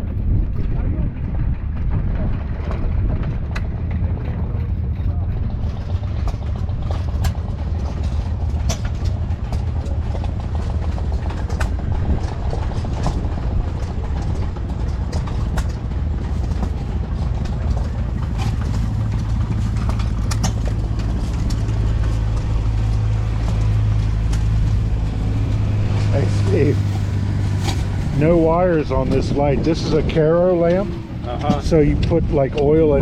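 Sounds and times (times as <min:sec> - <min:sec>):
engine rumbling: 0:00.0 - 0:33.0.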